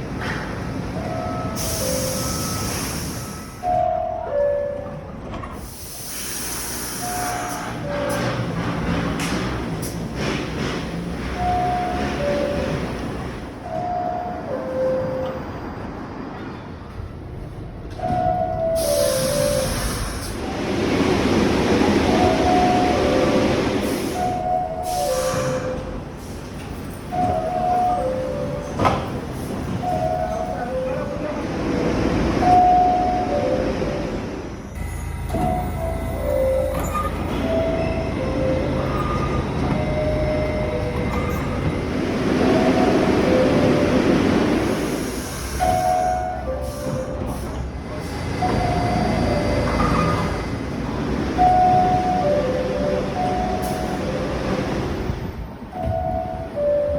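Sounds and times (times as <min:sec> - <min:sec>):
subway door chimes: 0:00.0 - 0:56.9
train rumble: 0:00.0 - 0:56.9.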